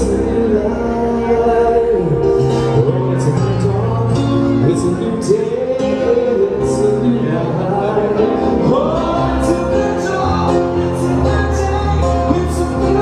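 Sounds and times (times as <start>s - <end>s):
live band playing chords: 0.0s - 13.0s.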